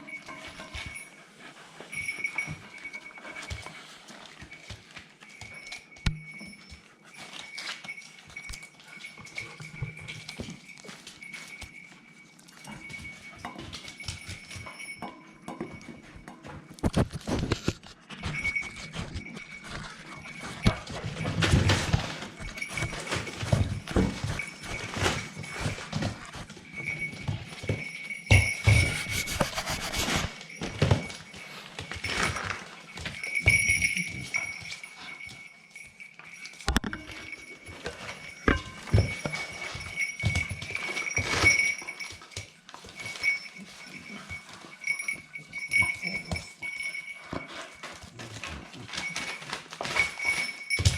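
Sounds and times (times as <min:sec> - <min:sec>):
paws clicking on hard floor: 0:00.0 - 0:50.9
puppies play-fighting: 0:00.0 - 0:50.9.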